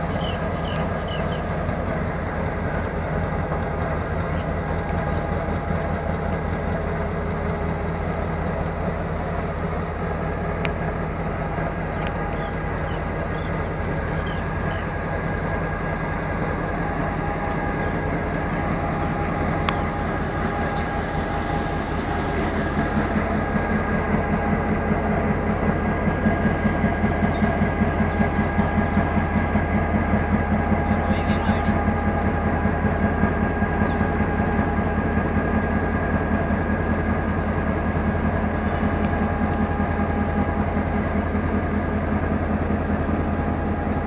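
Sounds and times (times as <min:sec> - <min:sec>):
diesel locomotive engine idling: 0:00.0 - 0:44.0.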